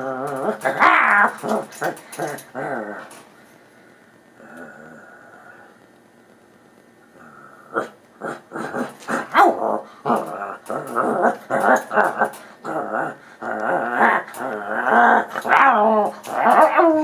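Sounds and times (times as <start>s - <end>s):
dog growling: 0.0s - 3.3s, 4.4s - 5.7s, 7.2s - 17.0s.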